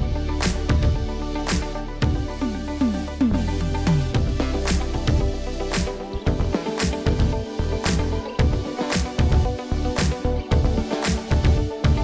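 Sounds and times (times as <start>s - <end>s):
electronic music over loudspeakers: 0.0s - 12.0s.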